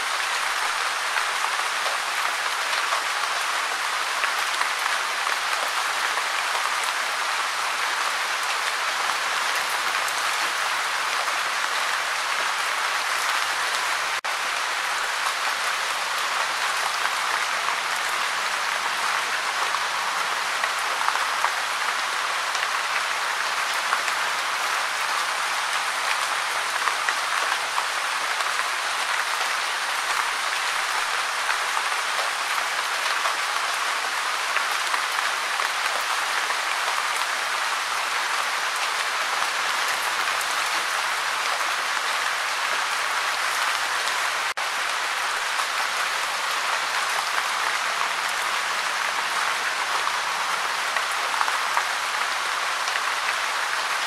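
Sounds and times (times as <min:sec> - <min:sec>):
steady gentle rain: 0:00.0 - 0:54.0.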